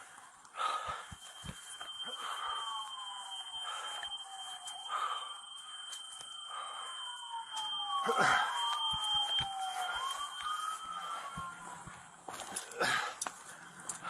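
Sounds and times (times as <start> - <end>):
emergency sirens wailing: 0.0 - 14.0
steady high-pitched tone: 0.0 - 14.0.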